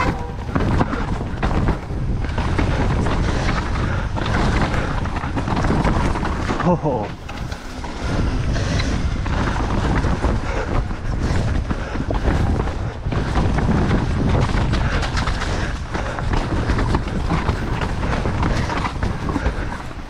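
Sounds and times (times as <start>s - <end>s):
mountain bike rattling: 0.0s - 20.0s
wind on microphone: 0.0s - 20.0s.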